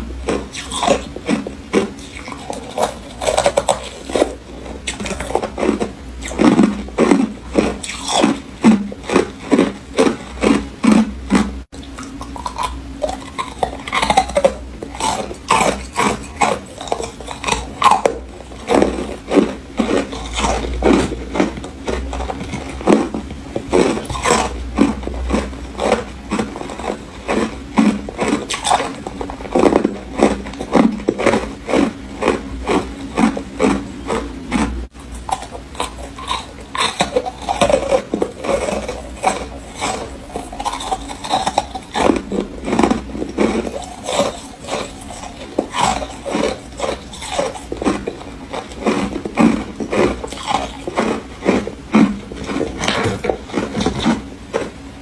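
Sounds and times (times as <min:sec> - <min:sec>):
crunching frost in mouth: 0:00.0 - 0:54.9.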